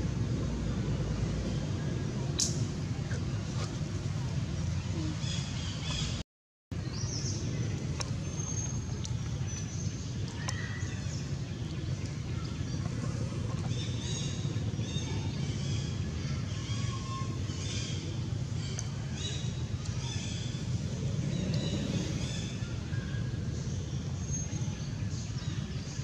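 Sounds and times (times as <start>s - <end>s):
low outdoor rumble with hiss: 0.0s - 6.2s, 6.8s - 26.0s.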